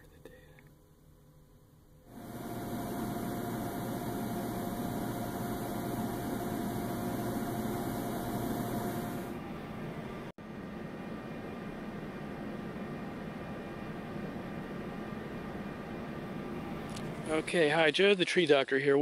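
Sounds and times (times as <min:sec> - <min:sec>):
machine humming with hiss: 0:02.1 - 0:17.4.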